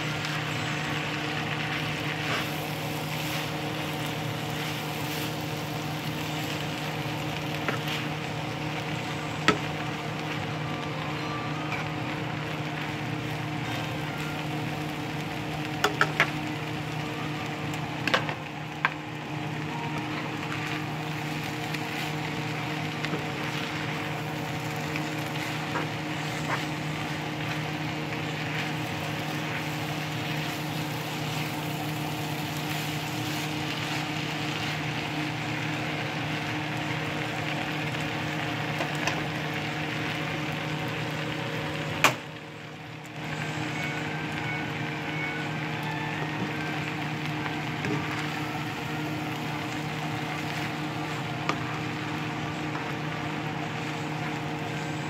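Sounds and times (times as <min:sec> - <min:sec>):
noodles sizzling in frying pan: 0:00.0 - 0:55.0
steady hum: 0:00.0 - 0:55.0.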